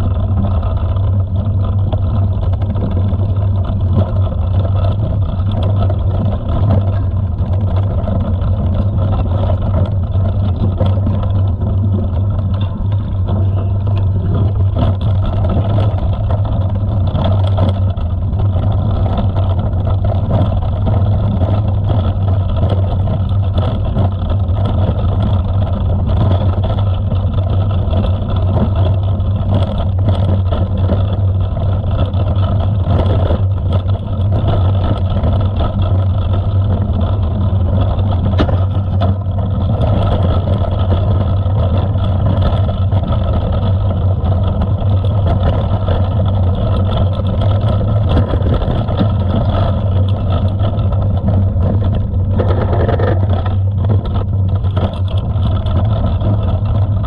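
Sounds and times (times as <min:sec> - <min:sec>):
bike tyres rumbling on dirt: 0:00.0 - 0:57.0
knocks and rattles: 0:00.0 - 0:57.0
wind buffeting microphone: 0:00.0 - 0:57.0.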